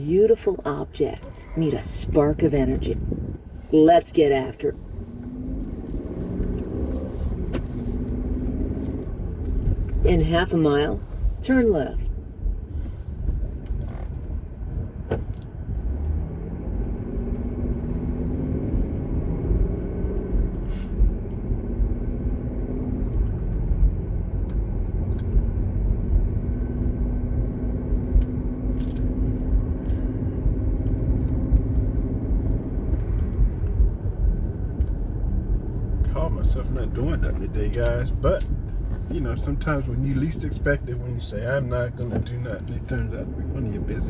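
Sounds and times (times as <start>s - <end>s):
road and engine rumble: 0.0s - 44.0s.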